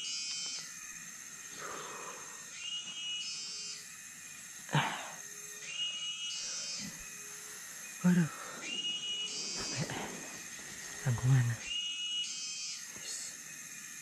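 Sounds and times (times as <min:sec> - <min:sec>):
insects buzzing drone: 0:00.0 - 0:14.0.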